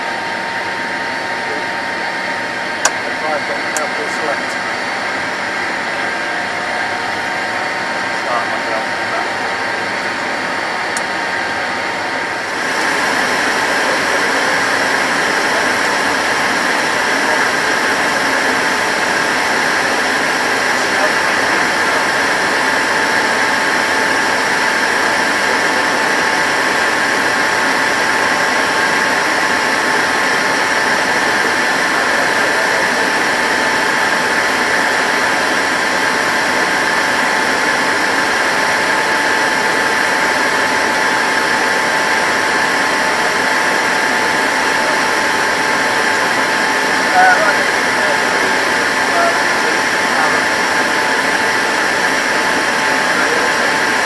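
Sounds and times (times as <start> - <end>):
jet engine rush with whine: 0.0 - 54.0.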